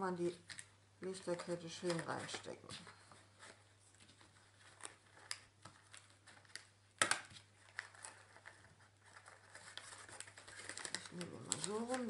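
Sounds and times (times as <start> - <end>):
paper crinkling: 0.4 - 12.0.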